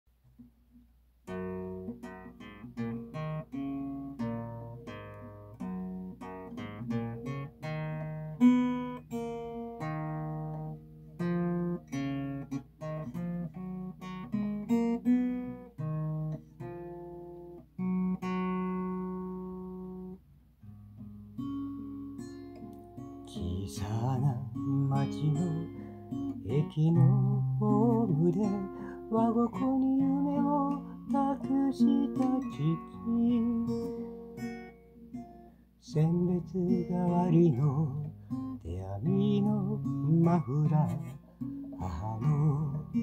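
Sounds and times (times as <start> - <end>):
acoustic guitar playing: 0.2 - 43.0.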